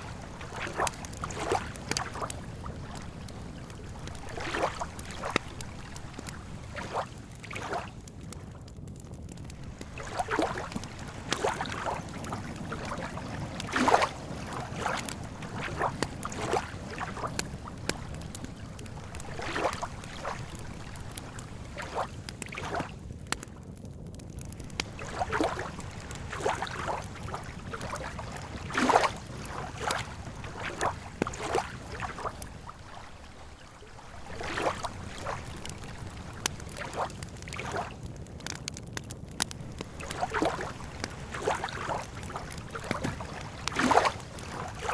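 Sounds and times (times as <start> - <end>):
water lapping at shore: 0.0 - 8.6, 9.4 - 23.6, 24.4 - 44.9
campfire crackling: 0.0 - 44.9.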